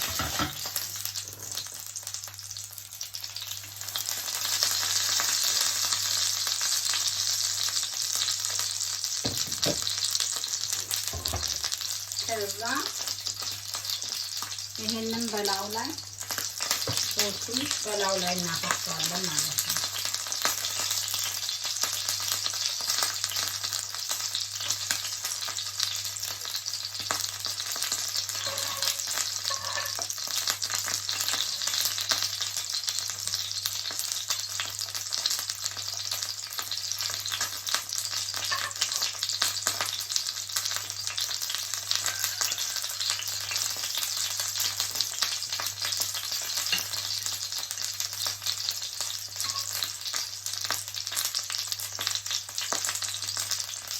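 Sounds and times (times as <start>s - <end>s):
fish sizzling in a frying pan: 0.0s - 53.9s.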